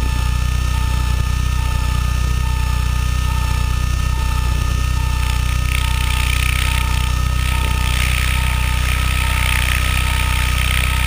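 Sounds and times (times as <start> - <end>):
drone motors hovering hum: 0.0 - 11.0.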